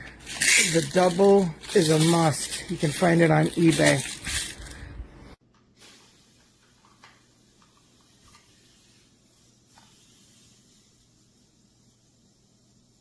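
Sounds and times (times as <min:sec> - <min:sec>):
faint hiss and hum: 0:00.0 - 0:13.0.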